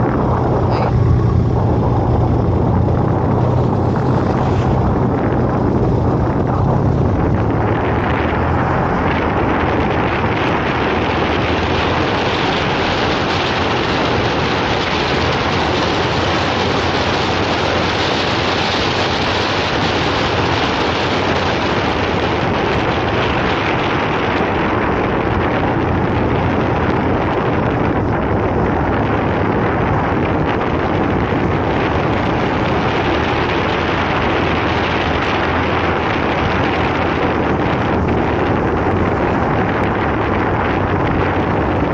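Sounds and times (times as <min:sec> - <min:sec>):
motorcycle engine hum: 0:00.0 - 0:41.9
wind rushing over microphone: 0:00.0 - 0:41.9.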